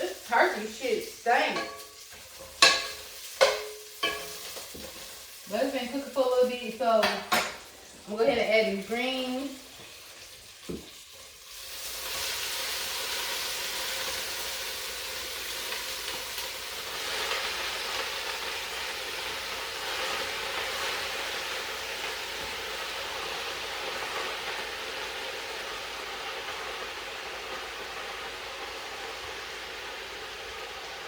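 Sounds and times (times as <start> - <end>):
greens hissing in a hot pot: 0.0 - 31.0.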